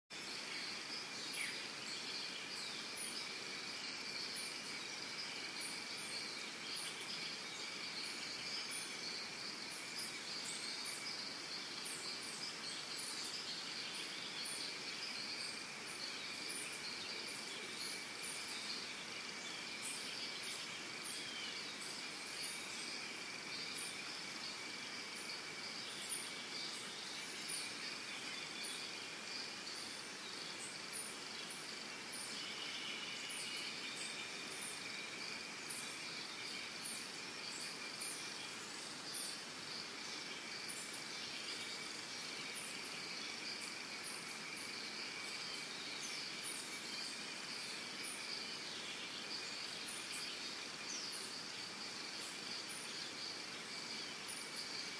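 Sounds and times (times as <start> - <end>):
high-pitched insect chorus: 0.1 - 54.9.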